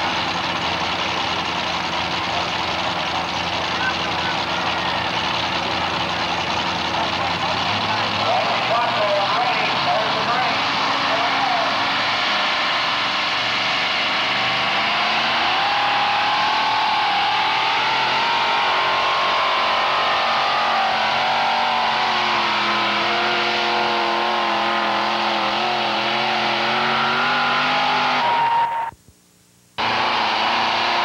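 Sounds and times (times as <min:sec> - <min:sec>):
tractor engine running hard: 0:00.0 - 0:28.7
lower engine tones: 0:00.0 - 0:29.0.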